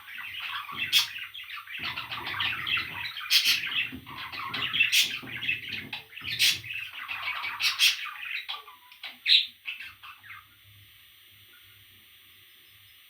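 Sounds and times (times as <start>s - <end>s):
parrot chicks calling: 0.0s - 10.5s.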